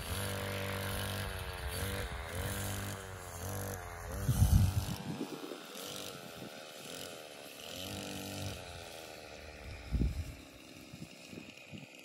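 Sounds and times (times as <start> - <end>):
small petrol engine revving: 0.0 - 12.0.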